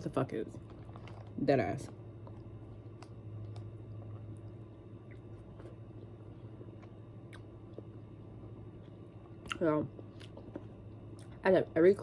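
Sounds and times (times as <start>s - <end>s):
steady low hum: 0.0s - 12.0s
person chewing food: 0.6s - 1.4s, 2.2s - 11.4s.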